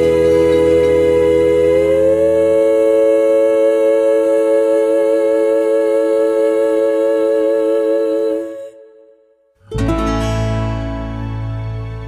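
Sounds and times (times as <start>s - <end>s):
background music held chord: 0.0s - 12.0s.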